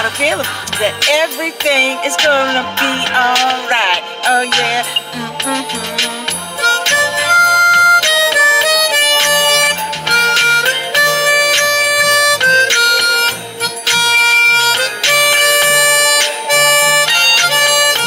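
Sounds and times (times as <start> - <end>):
harmonica playing a tune: 0.0 - 18.0.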